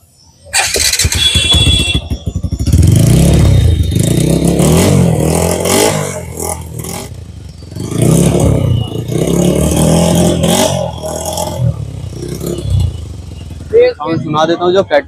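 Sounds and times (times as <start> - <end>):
motorcycle engine revving: 0.5 - 14.9.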